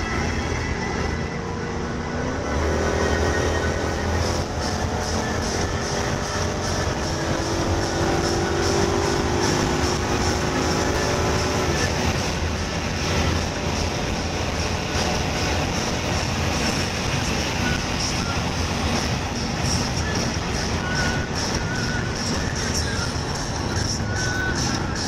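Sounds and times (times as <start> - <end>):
car engine hum: 0.0 - 25.0
road tyre and wind roar: 0.0 - 25.0.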